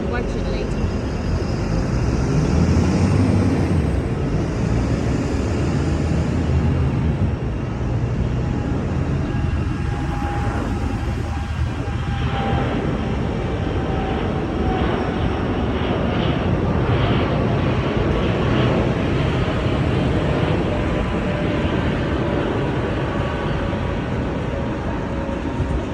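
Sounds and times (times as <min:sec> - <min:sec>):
jet airliner engines rushing: 0:00.0 - 0:25.9.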